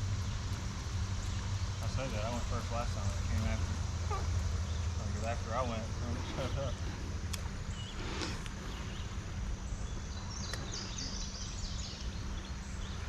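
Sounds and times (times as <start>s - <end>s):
low rumble of creek: 0.0s - 13.0s.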